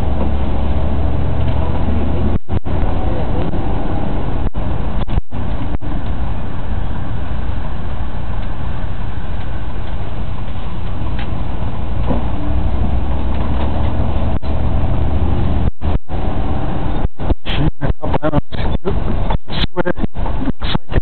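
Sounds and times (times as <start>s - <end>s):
road noise inside vehicle: 0.0s - 21.0s
vehicle engine rumble: 0.0s - 21.0s.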